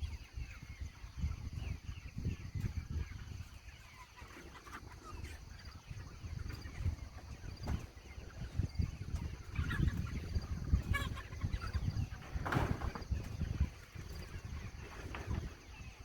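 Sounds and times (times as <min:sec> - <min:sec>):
chickens cheeping: 0:00.0 - 0:16.0.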